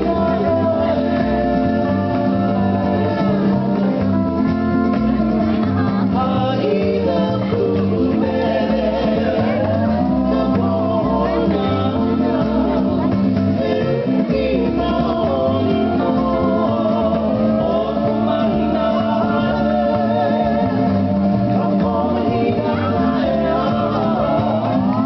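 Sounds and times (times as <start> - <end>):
person singing: 0.0 - 25.0
plucked guitar: 0.0 - 25.0
steady bass line: 0.0 - 25.0.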